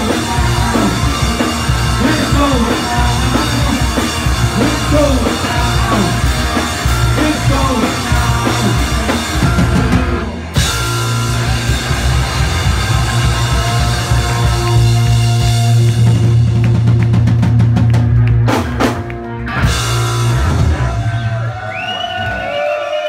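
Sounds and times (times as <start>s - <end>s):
drum kit: 0.0s - 21.6s
electric guitar: 0.0s - 22.4s
bass guitar: 0.0s - 22.5s.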